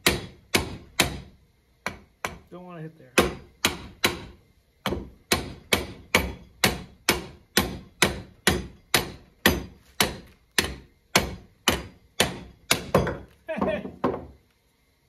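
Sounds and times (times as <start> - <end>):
hammer striking metal vise: 0.0 - 2.4, 3.2 - 13.2.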